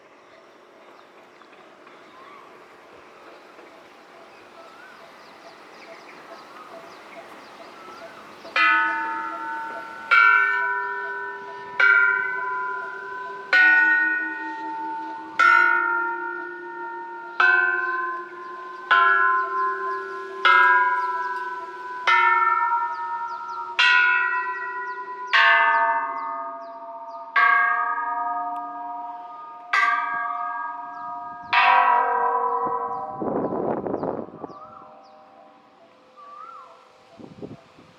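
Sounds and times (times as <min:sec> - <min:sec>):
temple bells ringing: 0:00.0 - 0:37.9.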